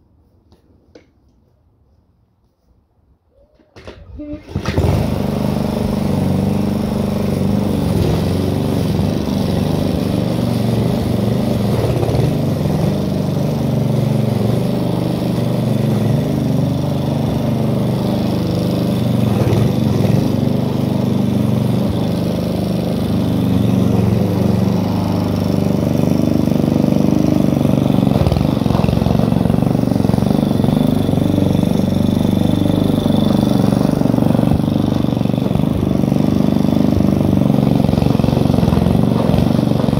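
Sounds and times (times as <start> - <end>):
lawn mower cutting grass: 4.2 - 39.9.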